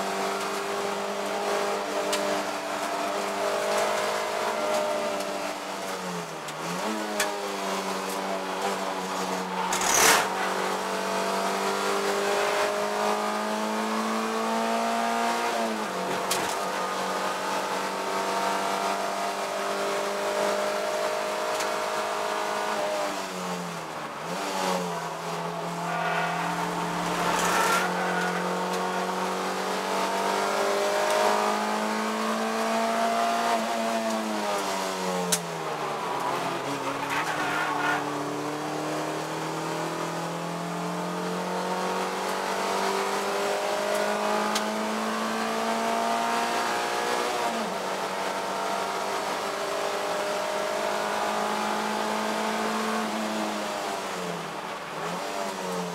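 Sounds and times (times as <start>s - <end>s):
race car engine revving: 0.0s - 54.2s.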